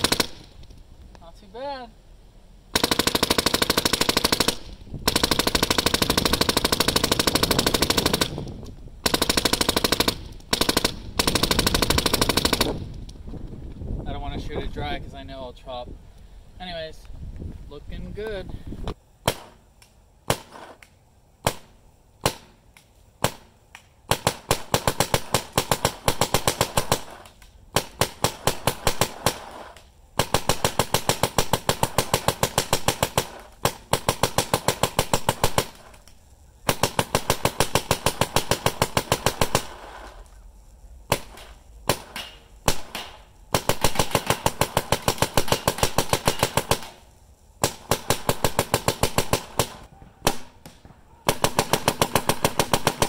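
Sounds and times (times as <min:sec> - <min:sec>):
paintball marker firing: 0:02.8 - 0:13.2, 0:19.2 - 0:40.3, 0:41.1 - 0:53.0.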